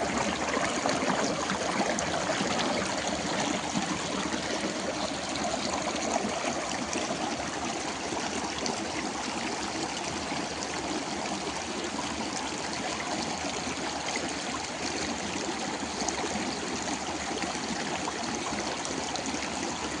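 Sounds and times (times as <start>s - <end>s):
stream trickling and burbling: 0.0s - 20.0s.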